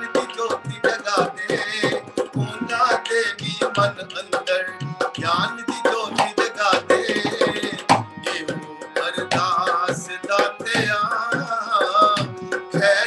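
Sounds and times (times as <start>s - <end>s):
dholak drum: 0.0s - 13.0s
keyboard: 0.0s - 13.0s
man singing devotional song: 0.0s - 13.0s.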